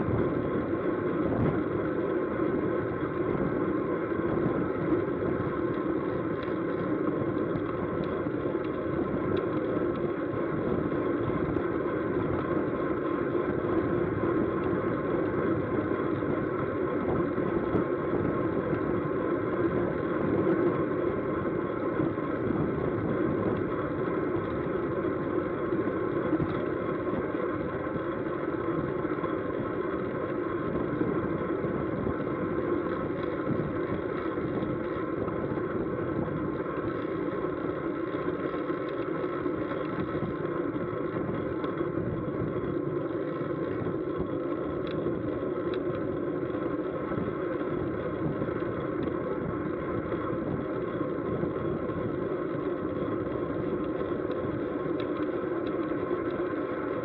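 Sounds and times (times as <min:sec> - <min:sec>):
bicycle tyres and chain humming: 0:00.0 - 0:57.0.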